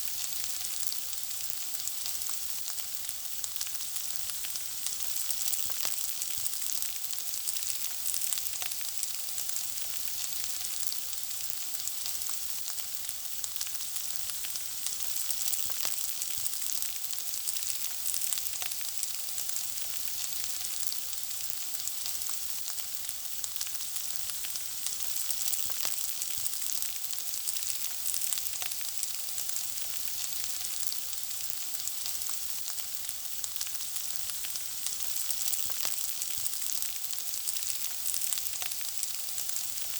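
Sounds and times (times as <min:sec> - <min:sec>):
food frying sizzle: 0:00.0 - 0:39.9.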